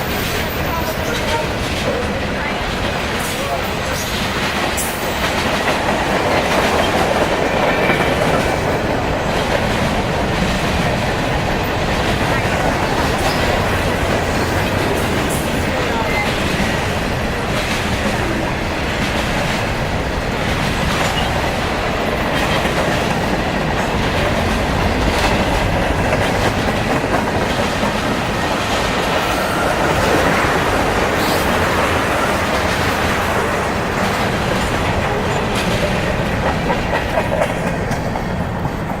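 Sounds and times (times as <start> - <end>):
railcars rumbling: 0.0 - 39.0
train wheels clacking over rail joints: 0.0 - 39.0.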